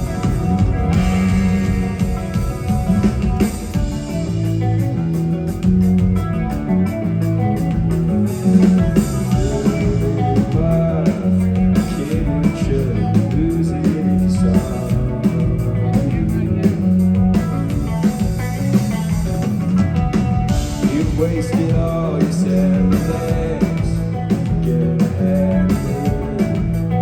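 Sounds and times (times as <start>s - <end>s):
electric guitar bending notes: 0.0s - 27.0s
rock band playing: 0.0s - 27.0s.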